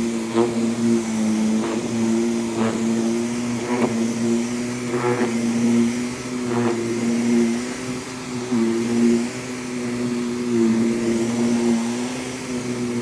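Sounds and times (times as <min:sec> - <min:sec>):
vacuum cleaner running: 0:00.0 - 0:13.0
vacuum swishing across rug: 0:00.0 - 0:13.0.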